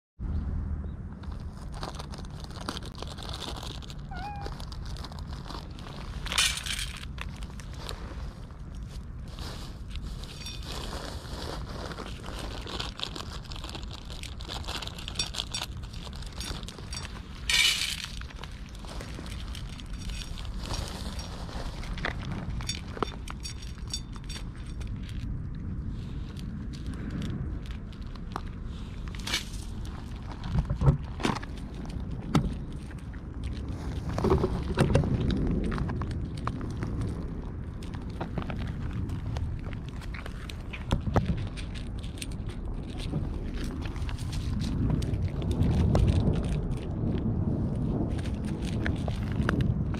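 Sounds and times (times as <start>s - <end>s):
low rumble: 0.2s - 49.9s
cats crunching dry kibble: 1.2s - 49.9s.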